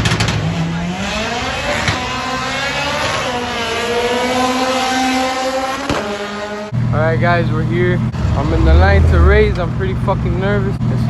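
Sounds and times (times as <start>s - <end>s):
car engine revving high: 0.0s - 6.9s, 7.6s - 10.5s.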